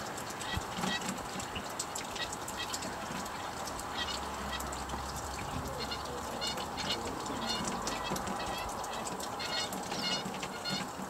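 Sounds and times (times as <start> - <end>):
wild birds calling: 0.0 - 11.0.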